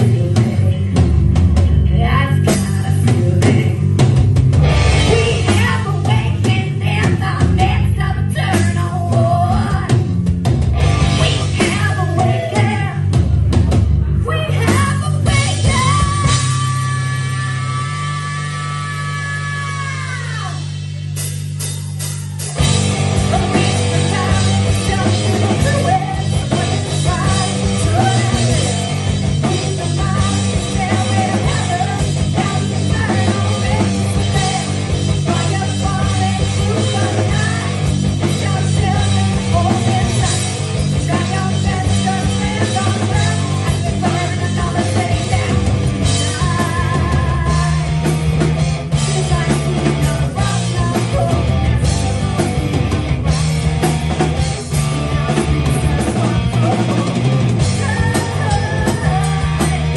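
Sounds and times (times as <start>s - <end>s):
woman singing: 0.0s - 0.9s, 1.8s - 4.0s, 5.0s - 10.1s, 11.1s - 13.2s, 14.1s - 20.8s, 23.2s - 48.1s, 48.9s - 52.7s, 54.8s - 59.9s
distorted electric guitar: 0.0s - 59.9s
drums: 0.0s - 59.9s
electric bass: 0.0s - 59.9s.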